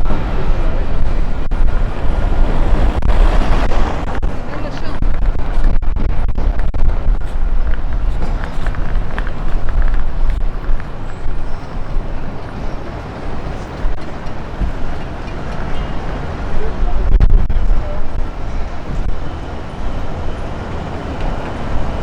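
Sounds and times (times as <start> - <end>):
heavy low rumble: 0.0 - 22.0
wind buffeting microphone: 0.0 - 22.0.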